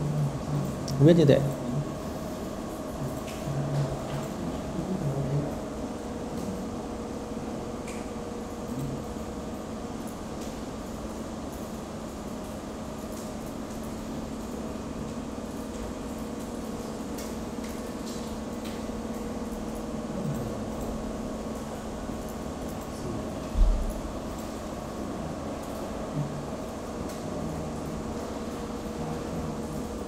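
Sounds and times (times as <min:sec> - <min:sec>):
mechanical room hum: 0:00.0 - 0:30.0.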